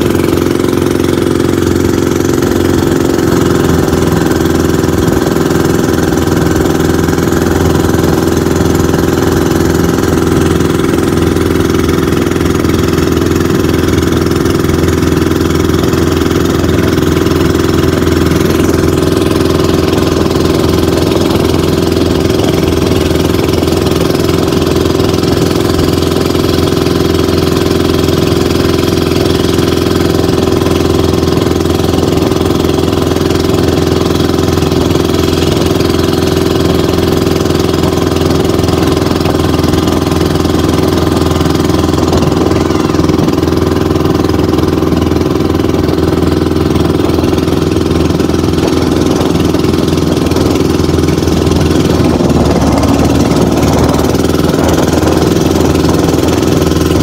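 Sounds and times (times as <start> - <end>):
motorboat engine running: 0.0 - 57.0
rushing water: 0.0 - 57.0
wind: 0.0 - 57.0.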